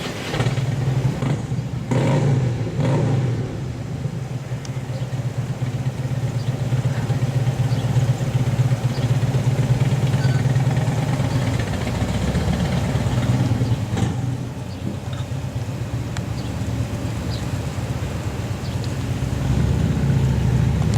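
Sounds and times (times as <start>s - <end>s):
vehicle engine idling: 0.0s - 20.9s.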